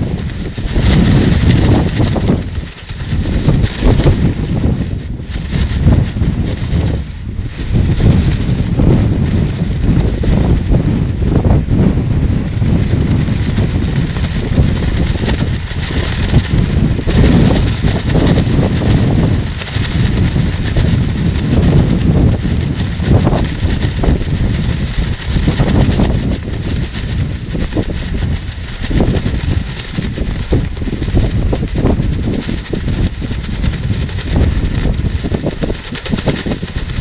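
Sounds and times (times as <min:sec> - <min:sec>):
plastic rainsuit flapping: 0:00.0 - 0:37.0
wind buffeting microphone: 0:00.0 - 0:37.0.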